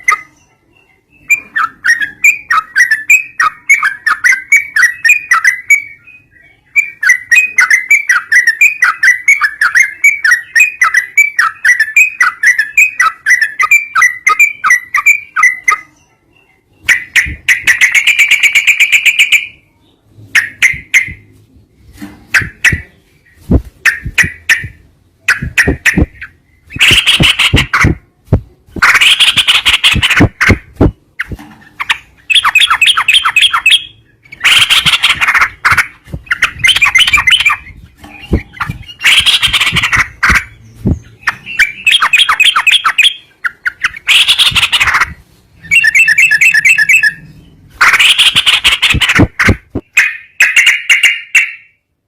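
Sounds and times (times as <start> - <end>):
buzzy bird trill: 0.0 - 19.6, 22.3 - 28.0, 28.8 - 51.7
recorded songbird song: 0.0 - 52.0.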